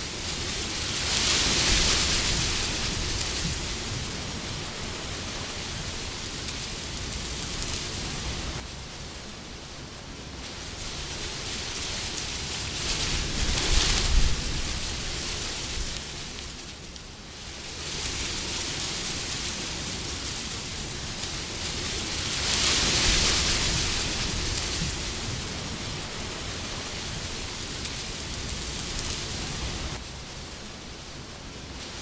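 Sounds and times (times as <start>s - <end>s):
wind blowing: 0.0s - 32.0s.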